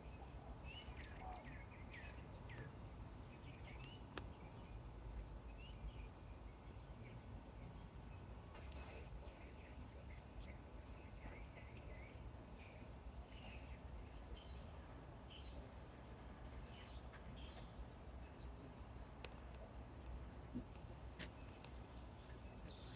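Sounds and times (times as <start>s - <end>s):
low background rumble: 0.0s - 22.9s
small songbirds chirping: 0.0s - 22.9s.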